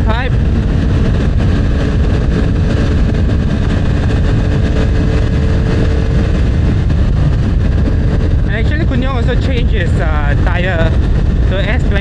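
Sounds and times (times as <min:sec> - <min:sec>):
motorcycle engine droning: 0:00.0 - 0:12.0
wind rumbling on microphone: 0:00.0 - 0:12.0.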